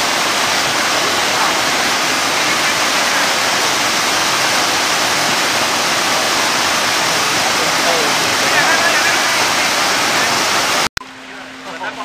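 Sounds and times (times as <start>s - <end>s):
falling water rushing: 0.0s - 10.9s.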